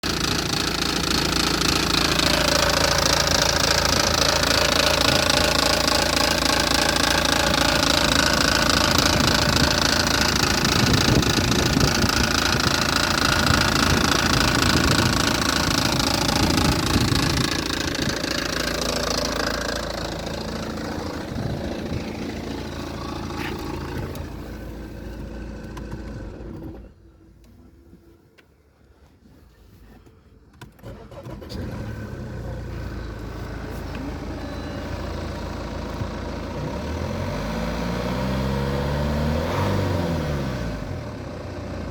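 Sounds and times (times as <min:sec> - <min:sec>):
diesel engine running: 0:00.0 - 0:27.3, 0:30.8 - 0:41.9
strange engine noise: 0:00.0 - 0:28.1, 0:30.7 - 0:41.9.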